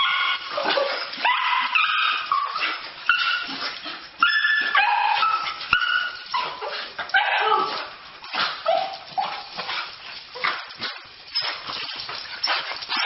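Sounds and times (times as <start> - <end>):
dogs whining and yelping: 0.0 - 13.0.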